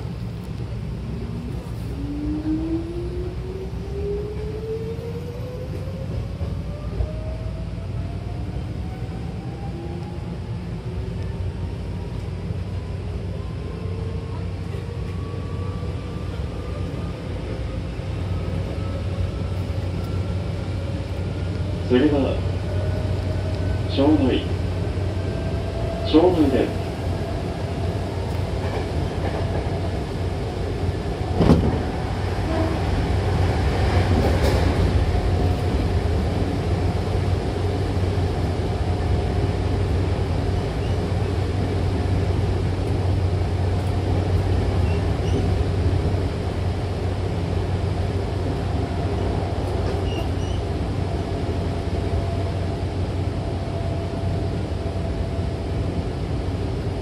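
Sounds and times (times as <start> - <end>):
train wheels rumbling on rails: 3.2 - 12.8, 13.5 - 57.0.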